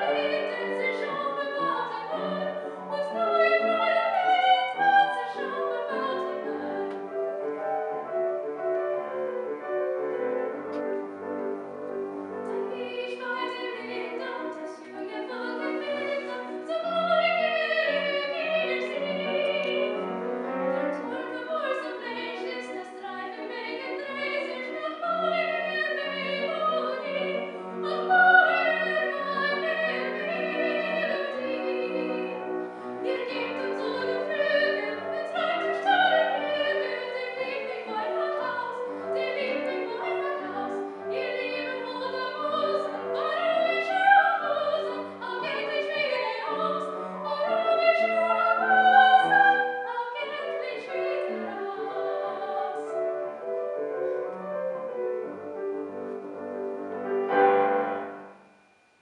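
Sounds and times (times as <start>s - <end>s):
soprano singing: 0.0s - 58.5s
piano accompaniment: 0.0s - 58.9s.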